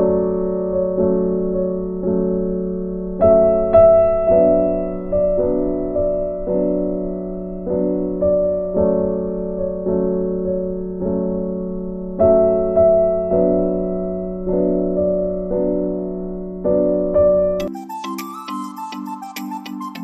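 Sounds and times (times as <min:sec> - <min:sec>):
soft electric piano chords: 0:00.0 - 0:20.0.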